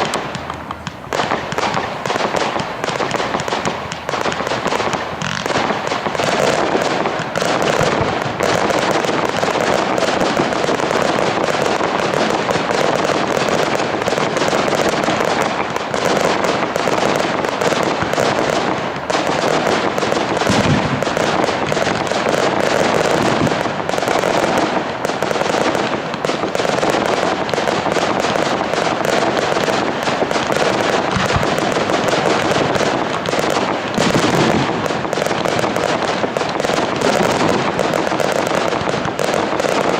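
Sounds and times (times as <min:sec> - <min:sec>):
fireworks booms: 0:00.0 - 0:39.9
fireworks crackling: 0:00.0 - 0:39.9.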